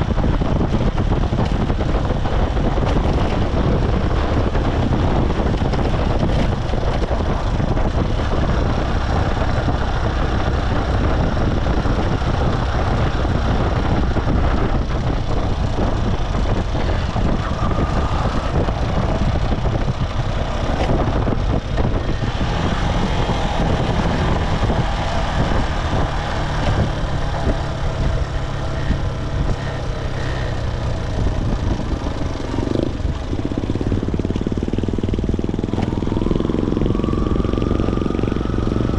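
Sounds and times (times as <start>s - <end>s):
motorcycle engine running: 0.0s - 38.9s
passing traffic: 0.0s - 38.9s
wind buffeting microphone: 0.0s - 38.9s.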